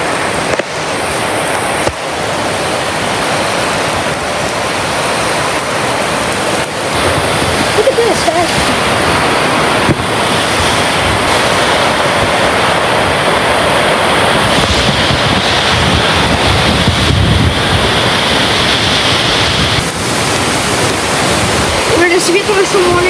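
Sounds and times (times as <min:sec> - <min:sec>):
driving rain: 0:00.0 - 0:23.0
wind buffeting microphone: 0:00.0 - 0:23.0.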